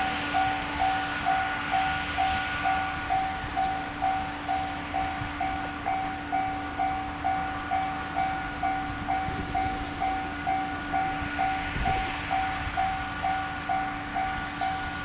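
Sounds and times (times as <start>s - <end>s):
level crossing warning bell: 0.0s - 15.0s
passing train rumble: 0.0s - 15.0s.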